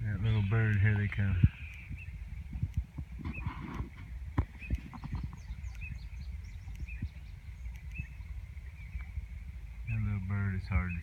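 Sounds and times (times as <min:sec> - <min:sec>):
low rumble of wind: 0:00.0 - 0:11.0.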